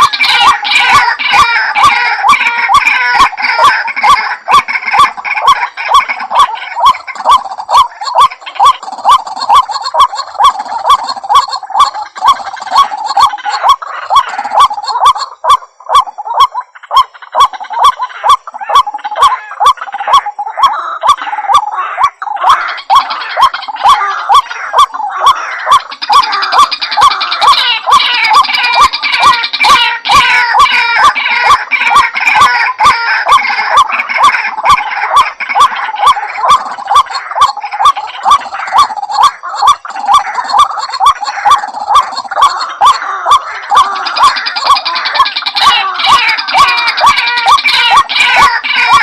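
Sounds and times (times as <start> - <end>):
waterhen calling harshly: 0.0 - 49.0.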